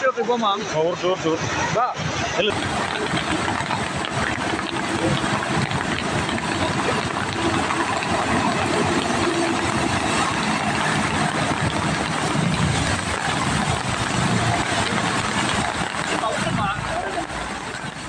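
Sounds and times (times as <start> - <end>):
floodwater rushing: 0.0 - 18.0
vehicle engine running: 2.4 - 18.0.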